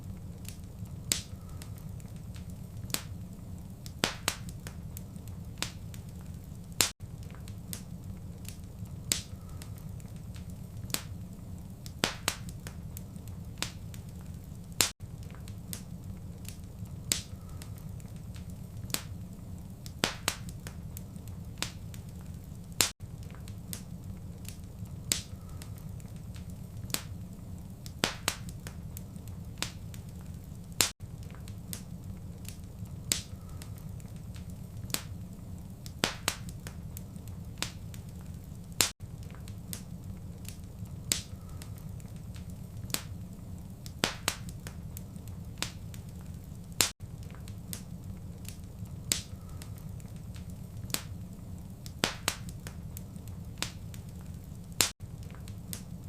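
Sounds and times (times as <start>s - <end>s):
fire pops and snaps: 0.0s - 56.0s
steady low rumble: 0.0s - 56.0s
wood fire crackling: 0.0s - 56.0s.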